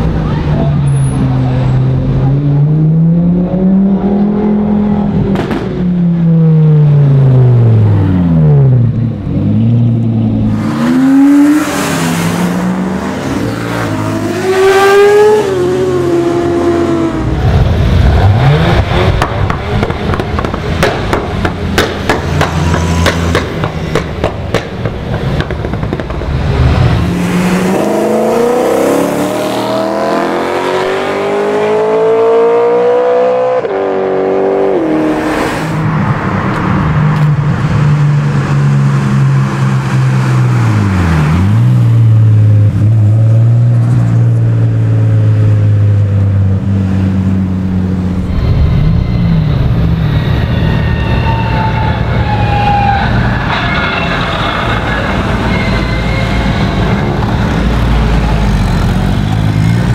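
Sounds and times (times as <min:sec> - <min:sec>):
cars accelerating and revving: 0:00.0 - 0:59.9.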